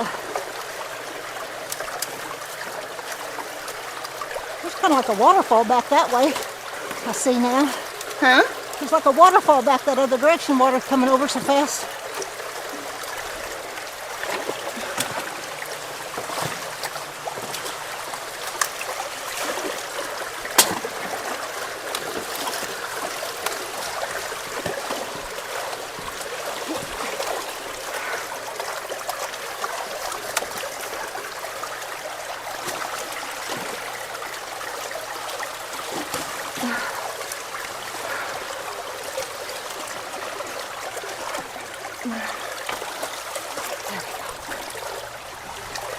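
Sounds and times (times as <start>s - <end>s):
water rushing and splashing: 0.0s - 45.9s.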